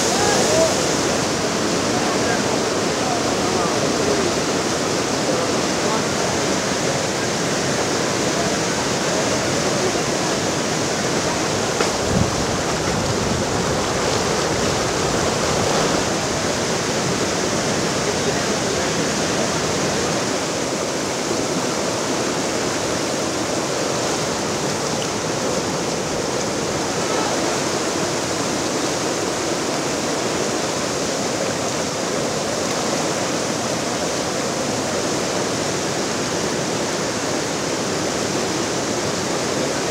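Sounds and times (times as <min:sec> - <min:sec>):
river water rushing in rapids: 0:00.0 - 0:39.9.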